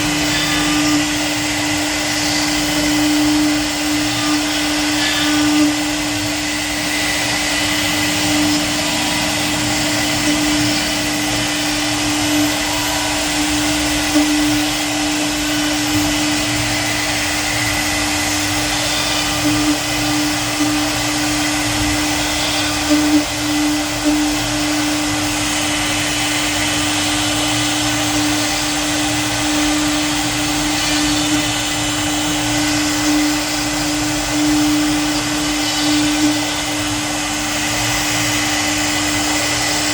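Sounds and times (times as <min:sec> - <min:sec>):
hiss of cutting wood: 0:00.0 - 0:39.9
router spindle whining: 0:00.0 - 0:39.9.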